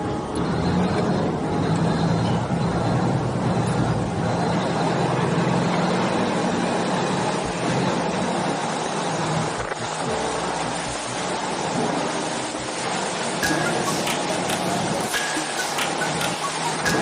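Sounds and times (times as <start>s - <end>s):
engine droning: 0.0s - 17.0s
noisy rush: 0.0s - 17.0s.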